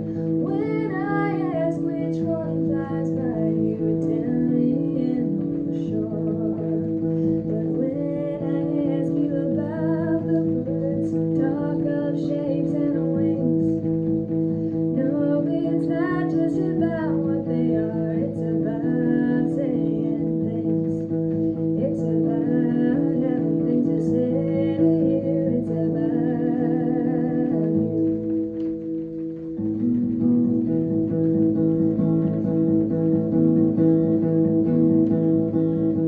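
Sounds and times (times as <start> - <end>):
acoustic guitar chords: 0.0 - 36.0.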